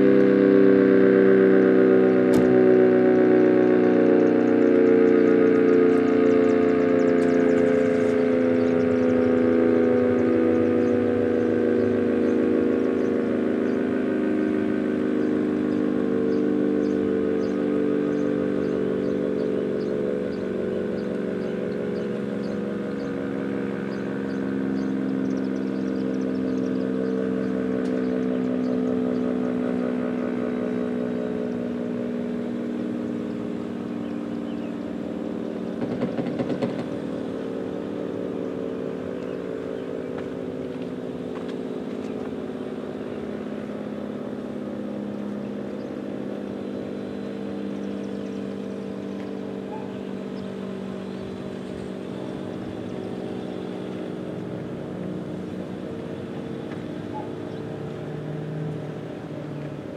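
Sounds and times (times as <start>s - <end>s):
warning siren steady tone: 0.0s - 59.9s.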